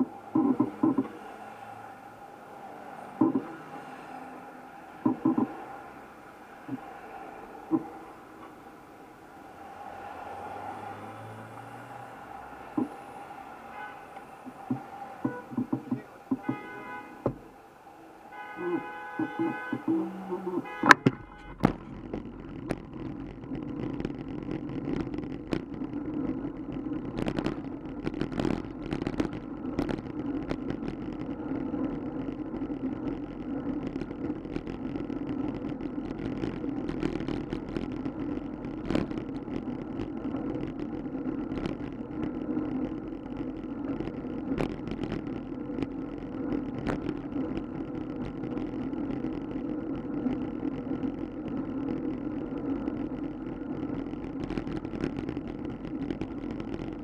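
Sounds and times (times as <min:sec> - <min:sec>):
wind and tyres rumbling on pavement: 0:00.0 - 0:57.0.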